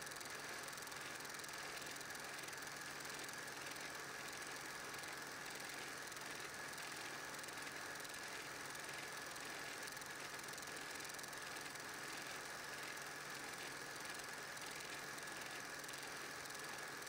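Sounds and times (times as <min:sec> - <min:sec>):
film projector running: 0:00.0 - 0:17.0.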